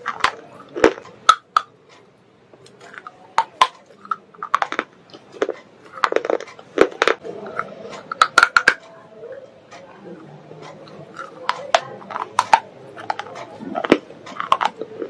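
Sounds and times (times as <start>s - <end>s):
brittle clay crunching: 0.0s - 1.7s, 2.6s - 8.9s, 9.7s - 15.0s.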